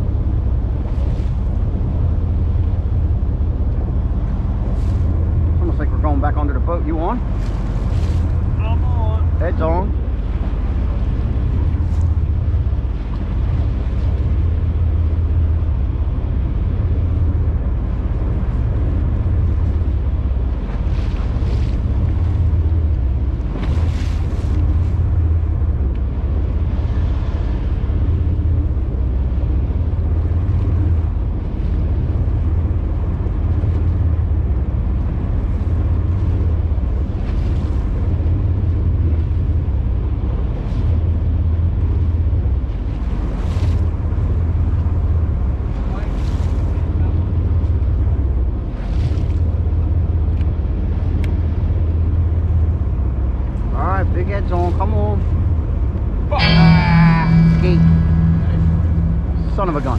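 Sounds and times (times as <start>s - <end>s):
water washing against hull: 0.0s - 56.3s.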